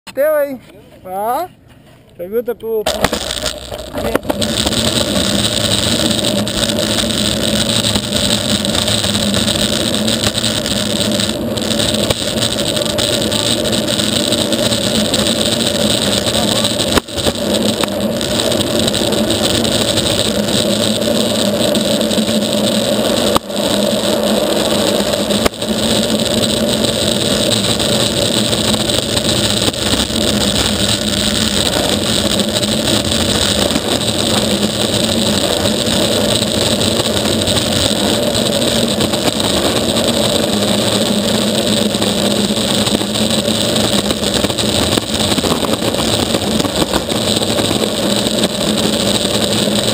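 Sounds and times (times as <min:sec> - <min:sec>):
longboard wheels rolling on asphalt: 0:02.7 - 0:49.9.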